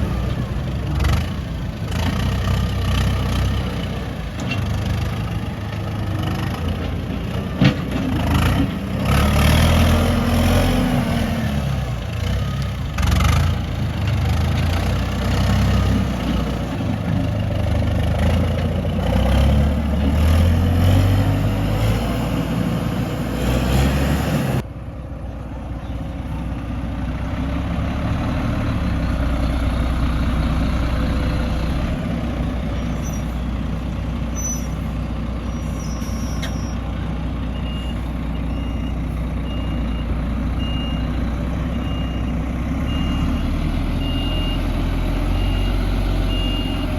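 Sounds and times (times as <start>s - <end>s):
diesel machinery revving: 0.0s - 24.7s, 25.4s - 46.9s.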